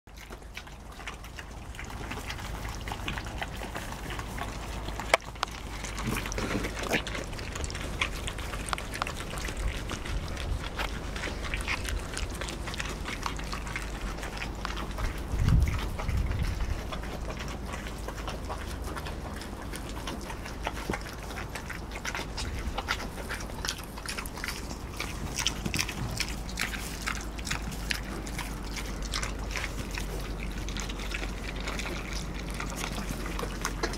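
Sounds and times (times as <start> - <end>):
piglet snuffling: 0.1 - 33.9
piglets crunching grain: 0.1 - 33.9.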